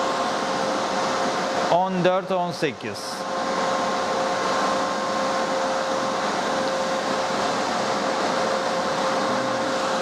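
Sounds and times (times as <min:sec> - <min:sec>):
cooling fans rushing air: 0:00.0 - 0:10.0.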